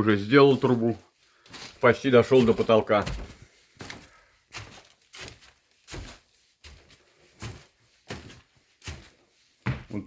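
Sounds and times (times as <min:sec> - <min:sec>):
footsteps on wooden floor: 0:00.4 - 0:10.0.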